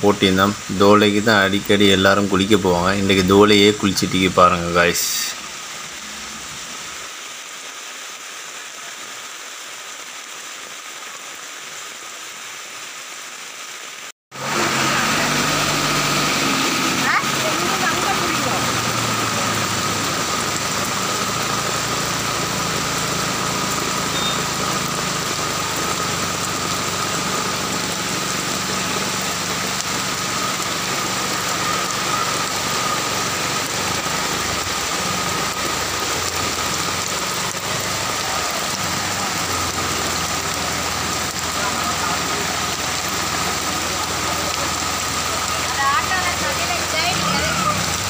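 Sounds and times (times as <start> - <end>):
heavy rain on flooded street: 0.0 - 48.0.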